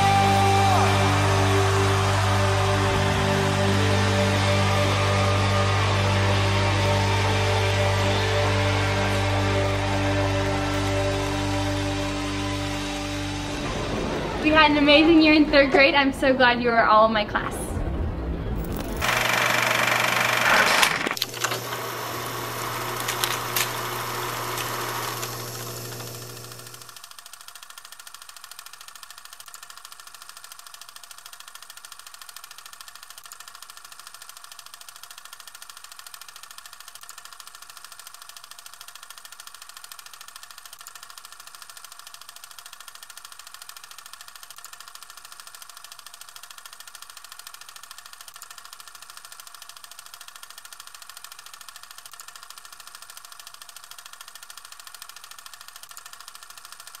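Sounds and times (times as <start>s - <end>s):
film projector whir and clatter: 0.0s - 13.1s, 18.8s - 57.0s.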